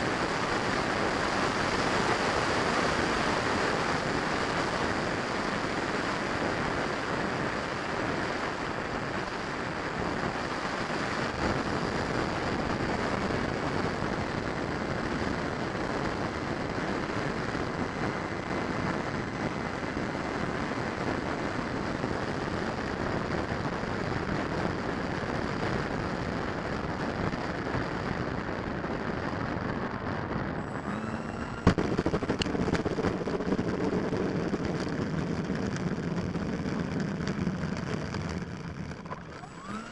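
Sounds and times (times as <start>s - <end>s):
rush of air and ducted-fan noise: 0.0s - 39.9s
small wheels rumbling on asphalt: 0.0s - 39.9s.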